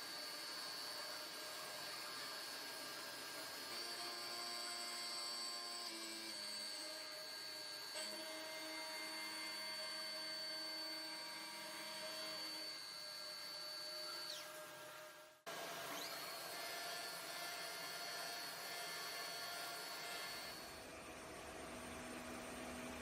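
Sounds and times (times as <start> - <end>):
machine tool electric whine: 0.0 - 23.0.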